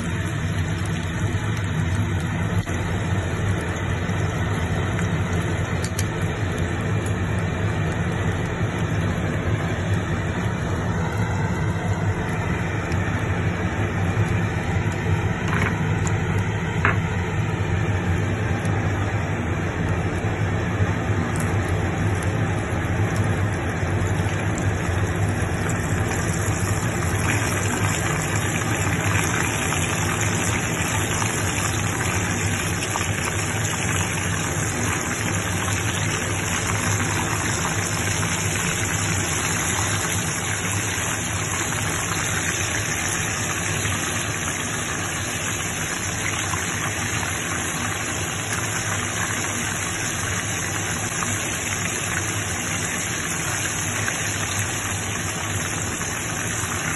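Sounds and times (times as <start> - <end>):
cutlets sizzling in hot oil: 0.0 - 56.9.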